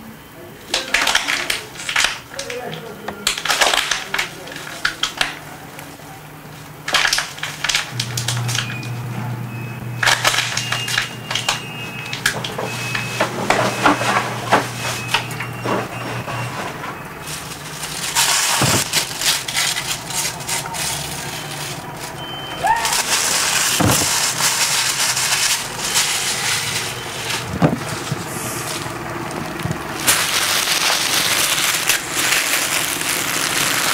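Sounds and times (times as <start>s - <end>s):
plastic and paper crinkling: 0.7s - 9.0s, 9.8s - 33.9s.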